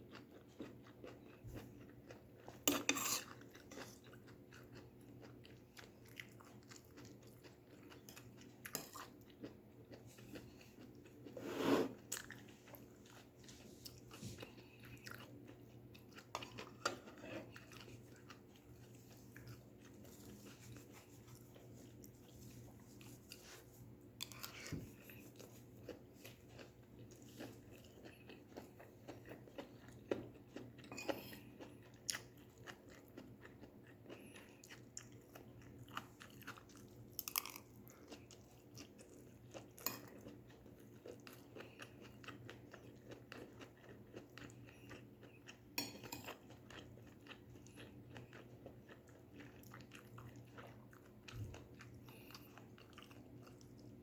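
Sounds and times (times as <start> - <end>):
chewing and crunching vegetables: 0.0 - 54.0.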